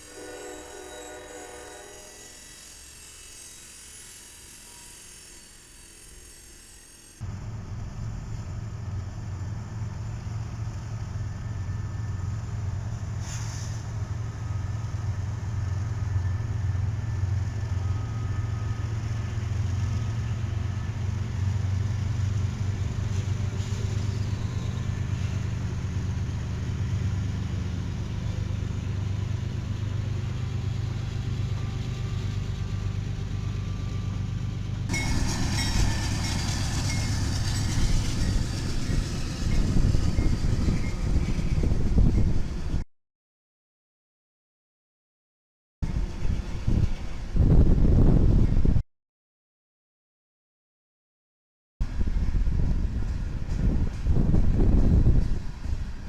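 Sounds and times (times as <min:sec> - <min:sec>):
diesel locomotive drone: 0:00.0 - 0:42.8, 0:45.8 - 0:48.8, 0:51.8 - 0:56.0.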